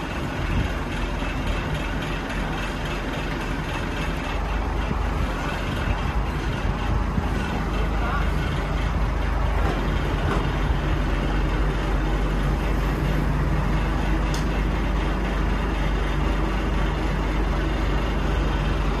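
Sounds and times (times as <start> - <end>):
diesel truck engine humming: 0.0 - 19.0.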